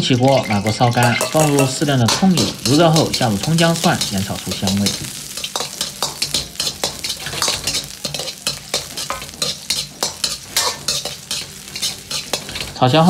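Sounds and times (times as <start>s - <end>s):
steel ladle scraping a wok: 0.0s - 13.0s
vegetables sizzling in hot oil: 0.0s - 13.0s.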